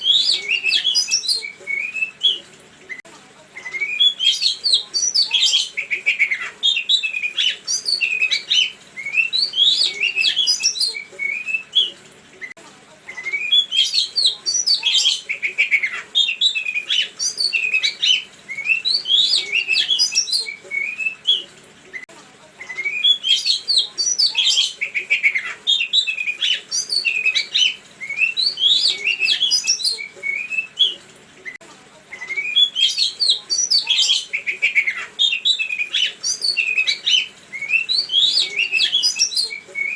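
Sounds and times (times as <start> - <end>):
songbird singing: 0.0 - 2.4, 3.6 - 12.0, 13.2 - 21.5, 22.7 - 31.0, 32.2 - 39.9.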